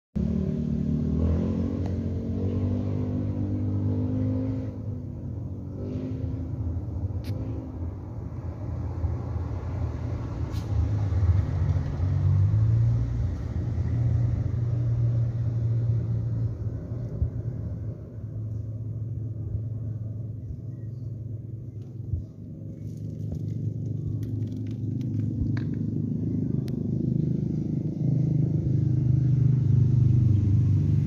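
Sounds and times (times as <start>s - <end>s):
engine running with low rumble: 0.2s - 31.0s.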